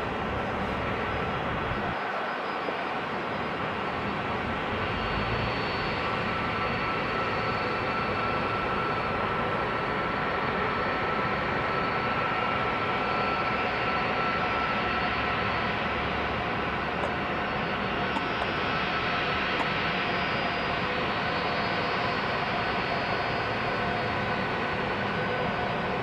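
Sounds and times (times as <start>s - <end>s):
jet airliner taxiing: 0.0s - 26.0s.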